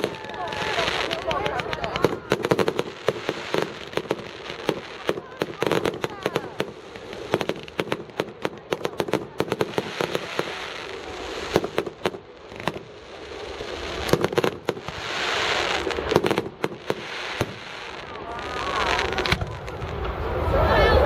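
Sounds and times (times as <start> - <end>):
fireworks bangs: 0.0 - 21.0
fireworks crackling hiss: 0.0 - 21.0.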